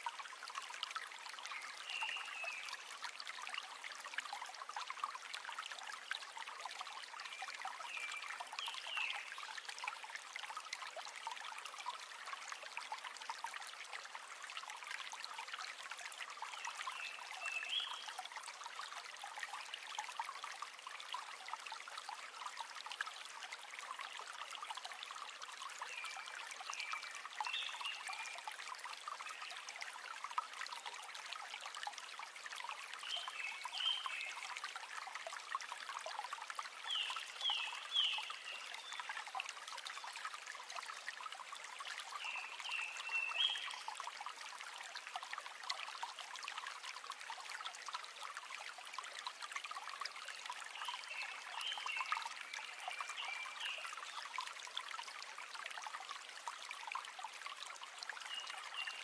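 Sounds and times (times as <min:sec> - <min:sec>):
river water trickling and babbling: 0:00.0 - 0:59.0.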